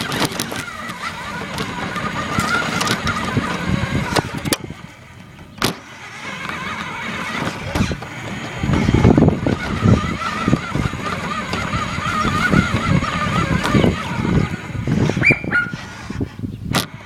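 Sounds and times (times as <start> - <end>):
radio-controlled car motor whine: 0.0 - 17.0.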